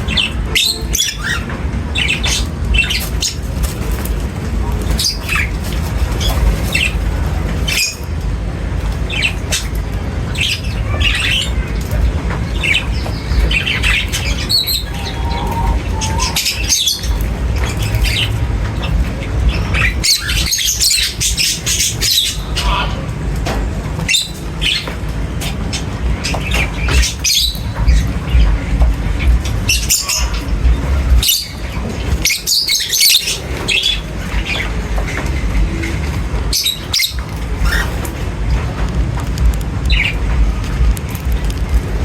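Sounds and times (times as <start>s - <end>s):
birds chirping and squawking: 0.0s - 42.0s
steady low rumble: 0.0s - 42.0s.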